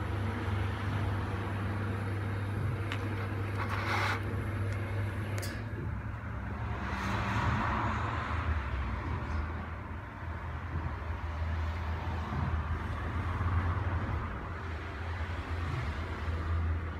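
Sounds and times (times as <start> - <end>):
low background rumble: 0.0 - 16.9.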